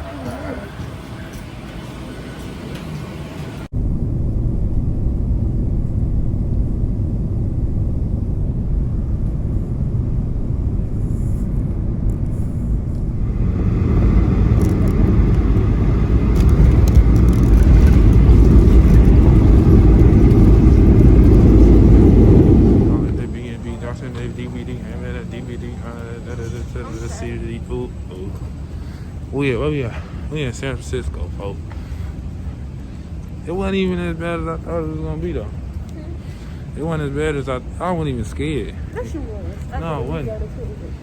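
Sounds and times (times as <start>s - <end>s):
jet engines rumbling in cabin: 0.0s - 41.0s.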